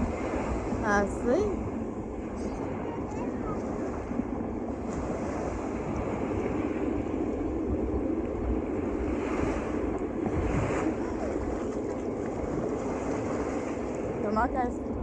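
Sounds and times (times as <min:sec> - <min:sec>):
ocean surf: 0:00.0 - 0:15.0
steady wind: 0:00.0 - 0:15.0
wind buffeting microphone: 0:00.0 - 0:15.0.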